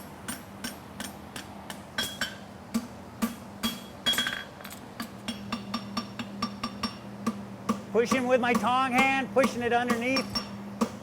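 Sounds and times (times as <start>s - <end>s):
anvil ringing: 0.0s - 2.5s, 3.2s - 4.6s, 5.3s - 7.1s, 7.7s - 10.9s
hammer striking on anvil: 0.0s - 11.0s
steady low hum: 0.0s - 11.0s.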